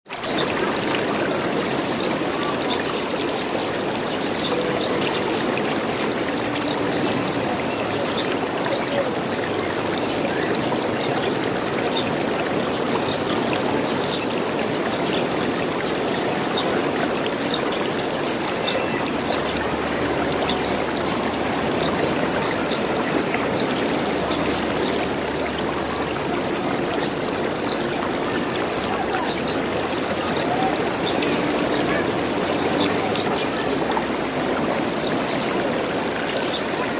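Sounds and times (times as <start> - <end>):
running water gurgling: 0.0 - 36.9.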